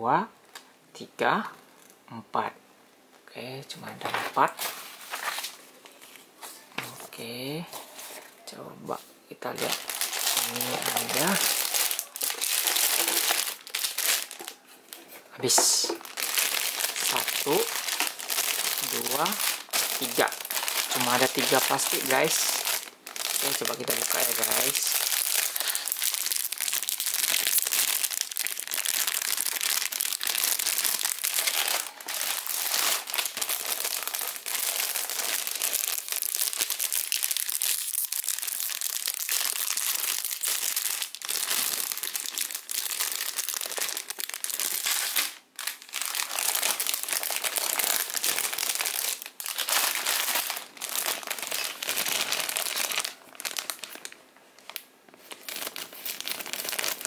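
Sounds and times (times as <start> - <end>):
plastic bags crinkling: 9.5 - 57.0.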